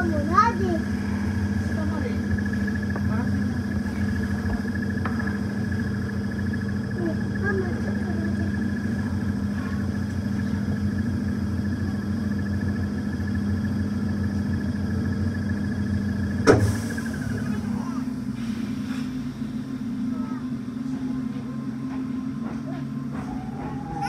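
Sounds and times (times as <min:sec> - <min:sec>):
train equipment humming: 0:00.0 - 0:24.0.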